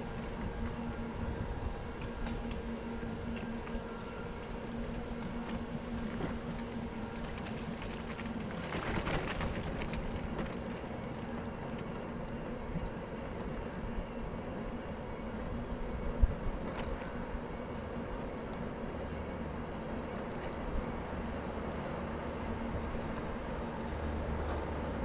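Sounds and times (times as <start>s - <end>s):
bicycle tyres and drivetrain hum: 0.0s - 25.0s.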